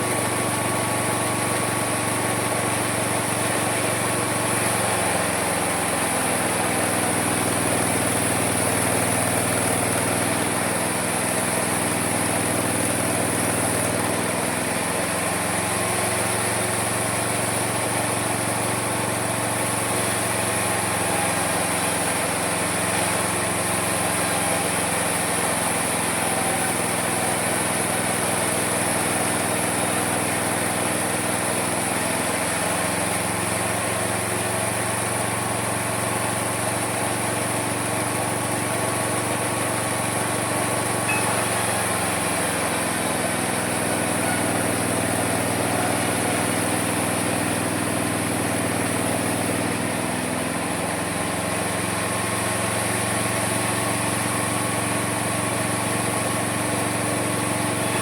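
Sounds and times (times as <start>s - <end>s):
sawmill motor cutting wood: 0.0s - 58.0s.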